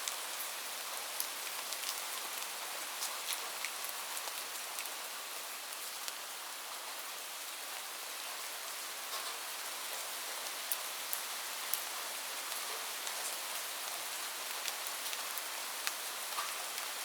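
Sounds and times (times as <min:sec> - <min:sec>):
raindrops ticking on a surface: 0:00.0 - 0:17.0.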